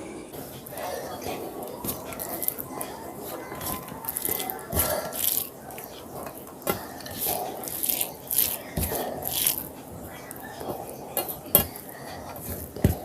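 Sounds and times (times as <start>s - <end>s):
chewing and mouth sounds: 0.4s - 13.0s.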